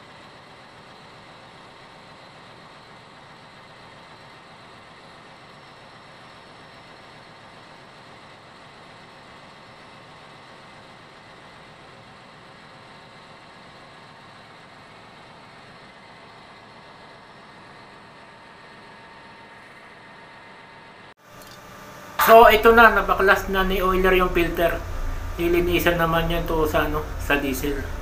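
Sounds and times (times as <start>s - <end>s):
engine room machinery noise: 0.0s - 28.0s.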